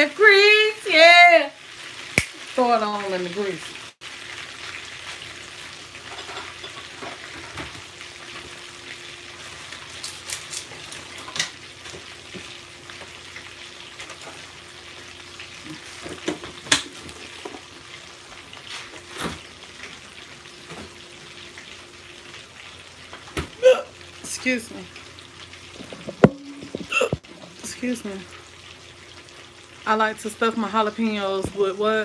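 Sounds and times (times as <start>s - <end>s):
food deep-frying sizzle and crackle: 0.0s - 32.0s.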